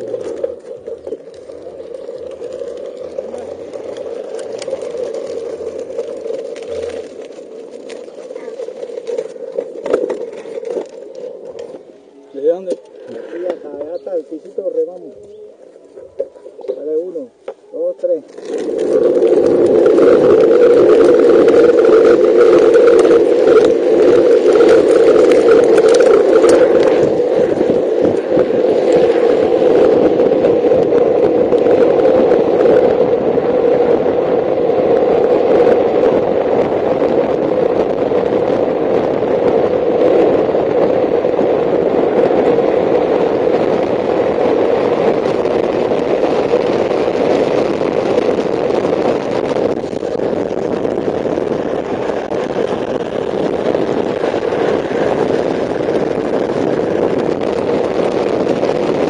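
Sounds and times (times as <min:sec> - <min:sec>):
wheels rolling on asphalt: 0:00.0 - 0:59.0.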